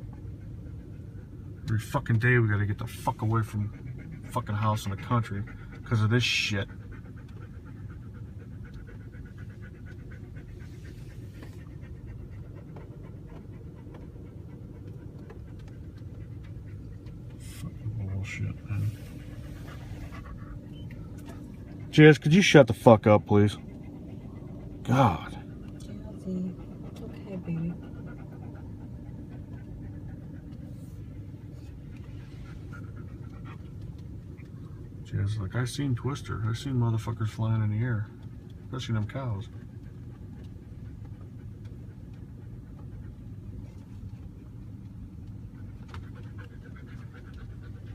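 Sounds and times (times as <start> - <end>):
dog panting: 0.0 - 47.9
vehicle low rumble: 0.0 - 47.9.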